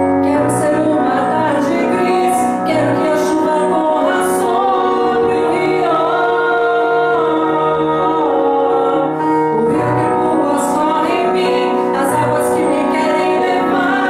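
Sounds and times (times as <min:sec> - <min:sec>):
instrumental accompaniment: 0:00.0 - 0:14.0
woman singing pop ballad: 0:00.2 - 0:14.0.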